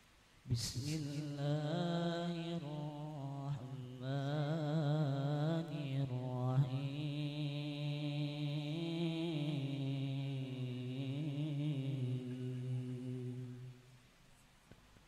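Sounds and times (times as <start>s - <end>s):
man reciting into microphone: 0.4s - 13.9s.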